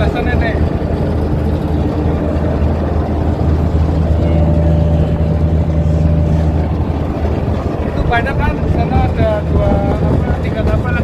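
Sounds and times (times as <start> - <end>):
steady higher tone: 0.0 - 10.8
boat engine humming: 0.0 - 11.0.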